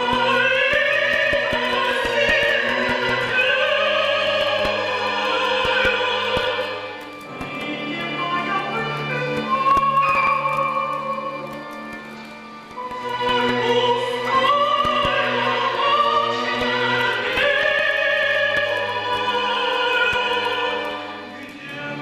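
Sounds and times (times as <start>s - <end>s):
woman singing with vibrato: 0.0s - 11.5s, 12.9s - 22.0s.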